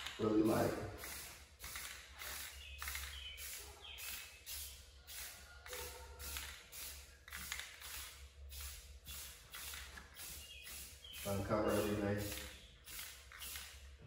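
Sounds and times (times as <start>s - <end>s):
aerosol can spraying hiss: 0.0s - 13.9s.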